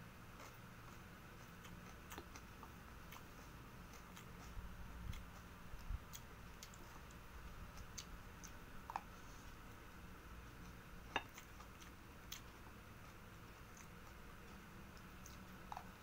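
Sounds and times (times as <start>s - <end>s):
person chewing food: 0.1s - 16.0s.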